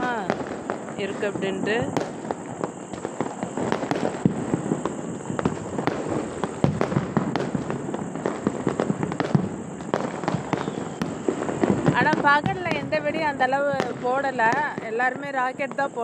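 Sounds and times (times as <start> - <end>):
distant fireworks popping and banging: 0.0 - 16.0.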